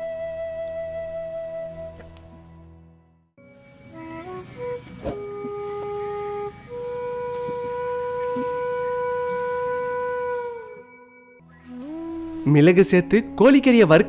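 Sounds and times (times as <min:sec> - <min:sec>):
wind instrument long notes: 0:00.0 - 0:02.4, 0:03.4 - 0:14.0.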